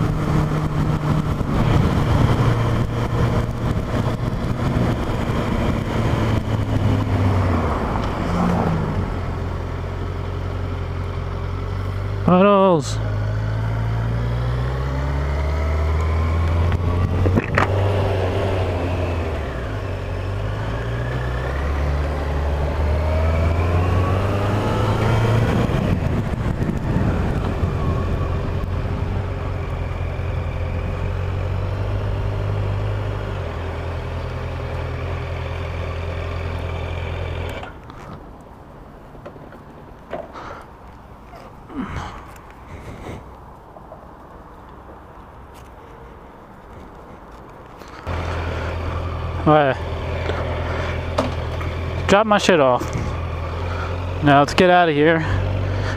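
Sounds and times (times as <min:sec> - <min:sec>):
motorcycle engine accelerating: 0:00.0 - 0:38.1, 0:47.8 - 0:55.9.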